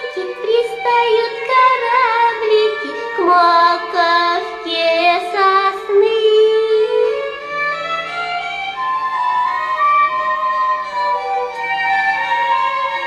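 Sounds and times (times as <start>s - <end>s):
instrumental children's song music: 0.0s - 13.0s.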